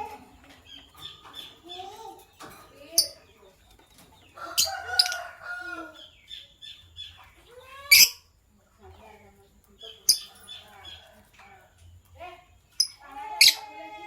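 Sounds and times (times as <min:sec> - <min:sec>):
lovebirds chirping: 0:00.0 - 0:13.7.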